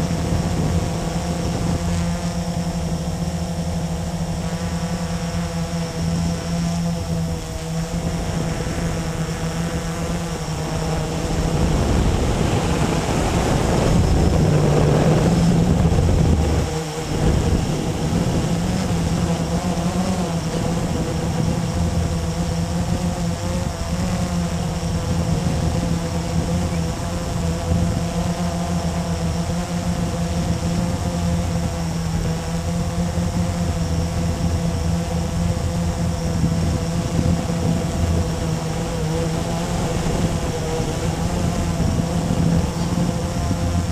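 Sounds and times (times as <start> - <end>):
drone propellers buzzing: 0.0 - 43.9.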